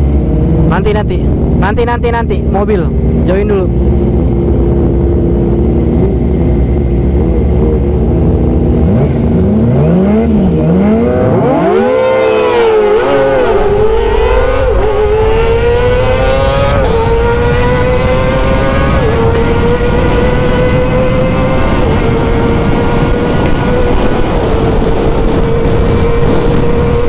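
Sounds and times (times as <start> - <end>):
motorcycle engine revving: 0.0 - 27.0
wind noise: 0.0 - 27.0.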